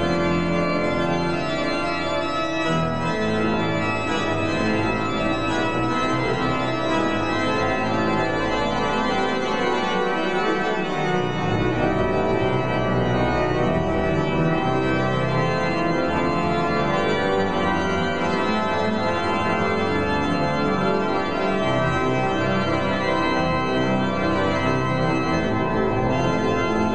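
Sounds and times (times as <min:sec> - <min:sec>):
pipe organ playing chords: 0:00.0 - 0:26.9.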